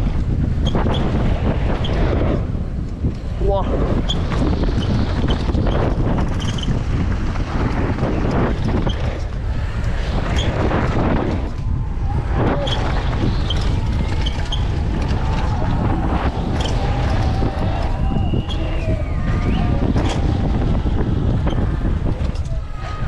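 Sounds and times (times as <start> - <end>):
bike clicks and rattles: 0.0 - 23.0
wind on microphone: 0.0 - 23.0
tyre noise on dirt: 4.0 - 23.0.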